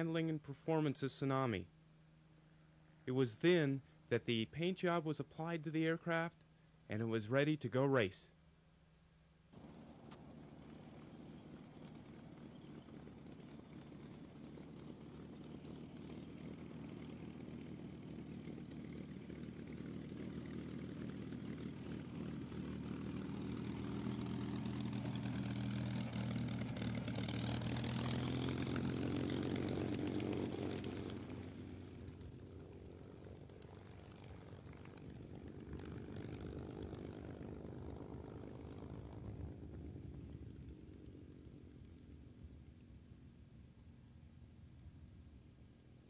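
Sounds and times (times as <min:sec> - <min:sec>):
aircraft engine drone: 0:00.0 - 0:08.2, 0:09.6 - 0:46.0.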